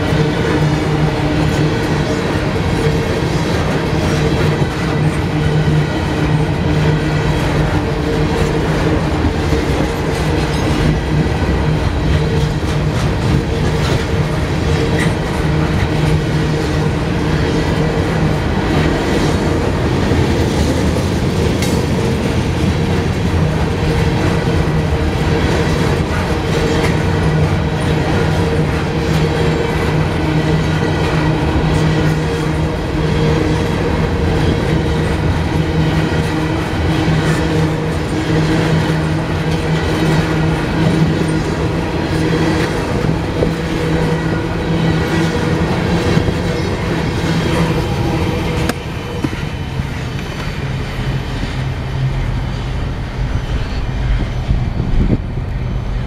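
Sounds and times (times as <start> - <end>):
freight train cars rumbling: 0.0 - 56.0.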